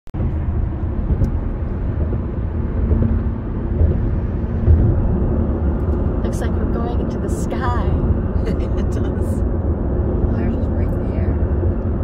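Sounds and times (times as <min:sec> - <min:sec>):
car cabin road and engine rumble: 0:00.1 - 0:12.0.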